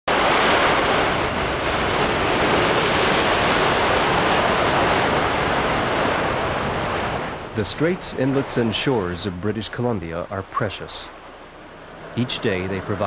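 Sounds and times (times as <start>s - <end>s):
surf breaking on rocks: 0.1s - 13.0s.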